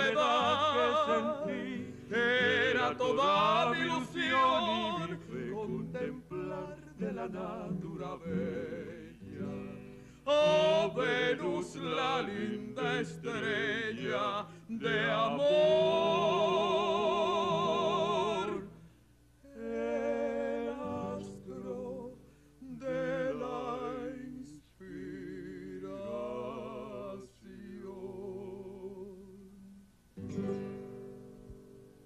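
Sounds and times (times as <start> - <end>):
acoustic guitar: 0.0 - 32.0.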